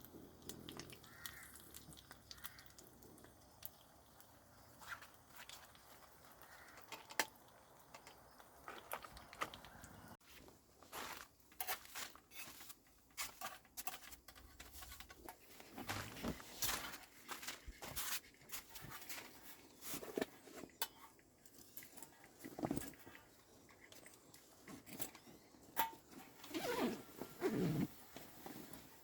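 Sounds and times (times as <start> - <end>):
rustling of handled objects: 2.1 - 29.0.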